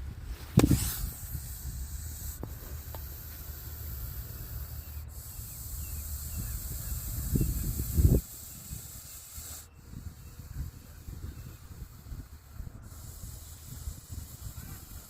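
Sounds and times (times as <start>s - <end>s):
snake hissing: 0.5s - 15.0s.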